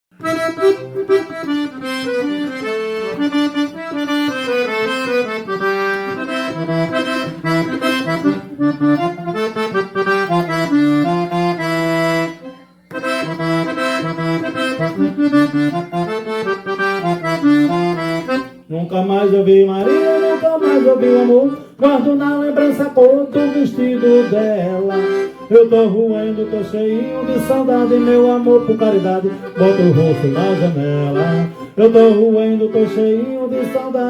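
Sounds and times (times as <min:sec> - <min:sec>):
accordion melody: 0:00.1 - 0:34.0.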